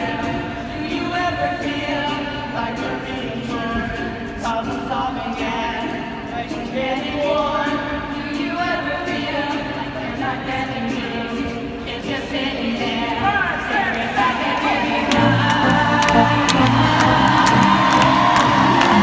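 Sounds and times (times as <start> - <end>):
voices singing together: 0.0 - 19.0.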